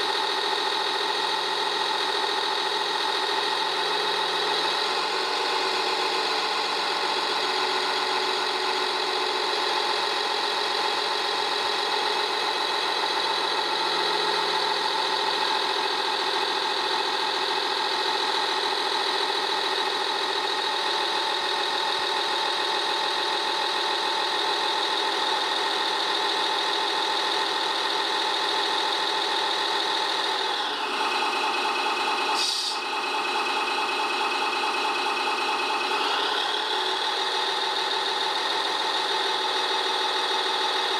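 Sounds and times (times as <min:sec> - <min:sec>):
simulated diesel engine idling: 0:00.0 - 0:40.9.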